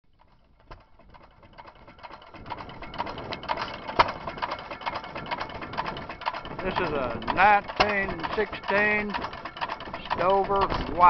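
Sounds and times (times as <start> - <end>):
hit-and-miss engine clattering: 0.0 - 11.0
engine sharp knock: 0.2 - 11.0.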